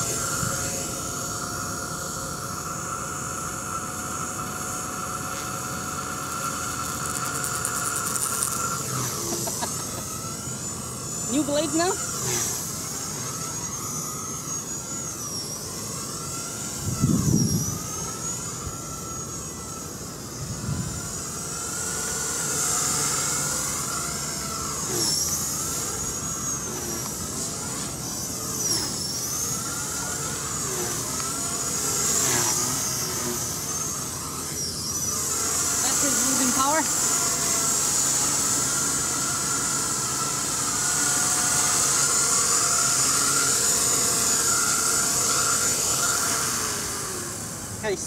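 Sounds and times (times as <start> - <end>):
rc helicopter motor whine: 0.0 - 48.0.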